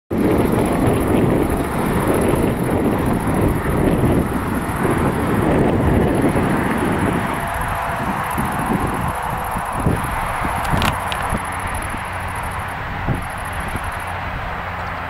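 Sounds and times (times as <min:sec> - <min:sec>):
distant jet engines: 0:00.1 - 0:15.0
wind buffeting microphone: 0:00.1 - 0:15.0.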